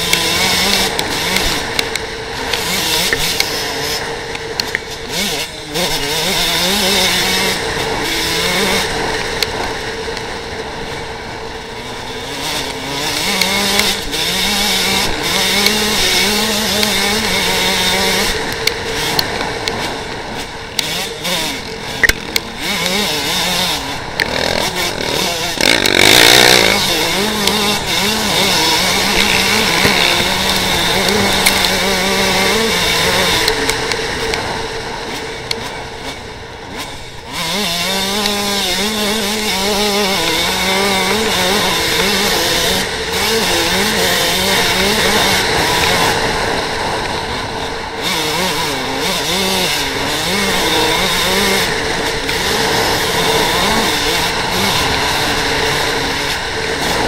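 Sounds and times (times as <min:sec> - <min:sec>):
dirt bike engine buzzing: 0:00.0 - 0:57.0.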